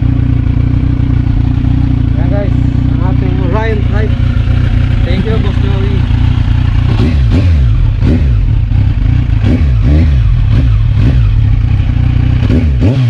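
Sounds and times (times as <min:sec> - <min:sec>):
motorcycle engine throttle blips: 0:00.0 - 0:13.0.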